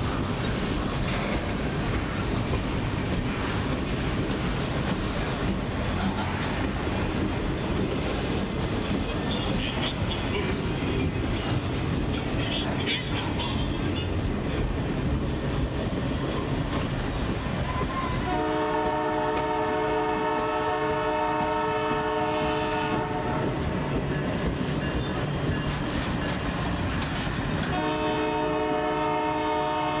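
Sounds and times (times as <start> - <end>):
train cars rumbling and clacking: 0.0 - 30.0.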